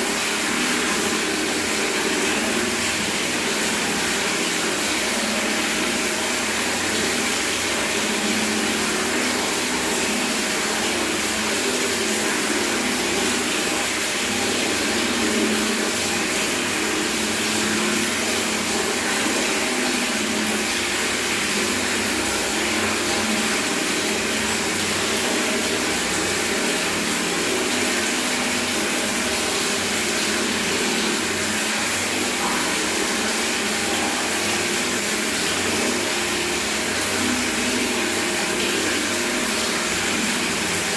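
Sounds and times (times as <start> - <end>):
tap water running into bucket: 0.0 - 40.9.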